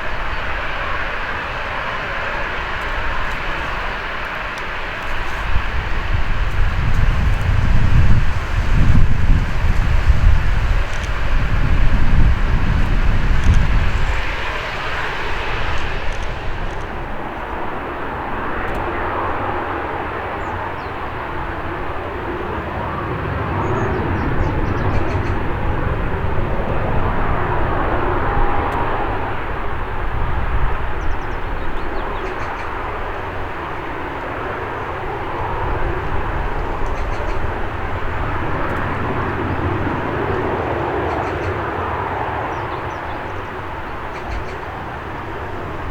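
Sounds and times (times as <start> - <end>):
turboprop engines droning: 0.0 - 45.9
wind rumble on microphone: 0.0 - 45.9.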